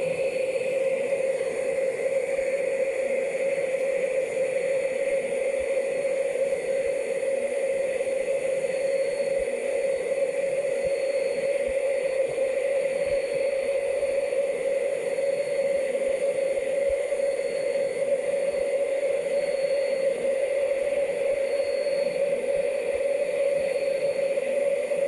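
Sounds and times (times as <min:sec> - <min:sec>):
jet engine hum with whine: 0:00.0 - 0:25.0.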